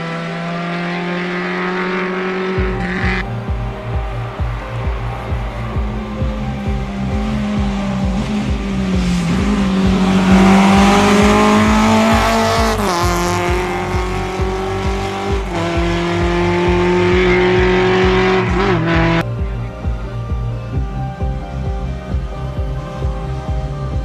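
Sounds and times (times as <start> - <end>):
rally car engine revving high: 0.0 - 24.0
music with steady beat: 1.9 - 24.0.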